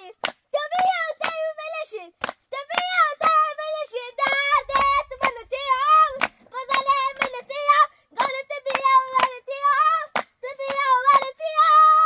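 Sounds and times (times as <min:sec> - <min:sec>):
child singing: 0:00.0 - 0:12.0
hand claps: 0:00.0 - 0:12.0.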